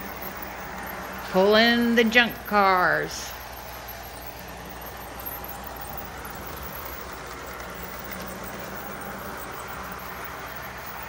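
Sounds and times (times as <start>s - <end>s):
model train whirring on rails: 0.0s - 11.0s.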